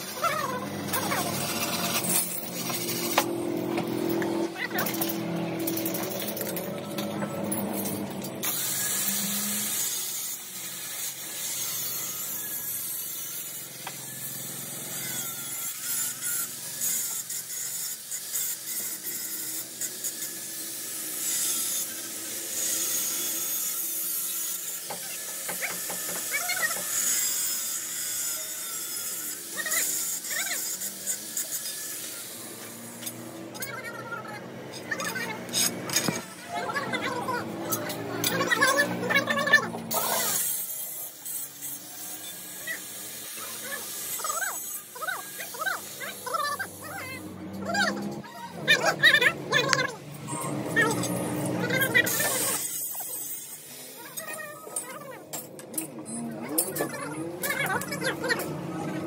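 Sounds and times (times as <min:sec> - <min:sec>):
angle grinder cutting steel: 0:00.0 - 0:59.0.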